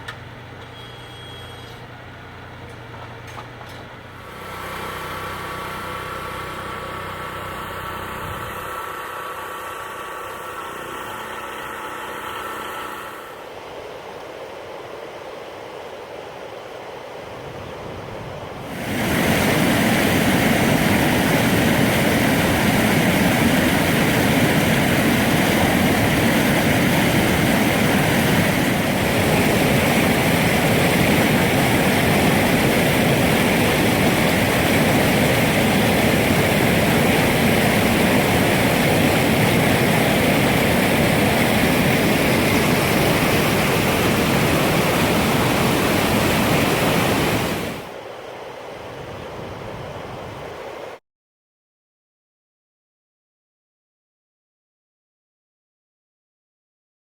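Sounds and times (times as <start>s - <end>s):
stream water rushing: 4.2s - 51.0s.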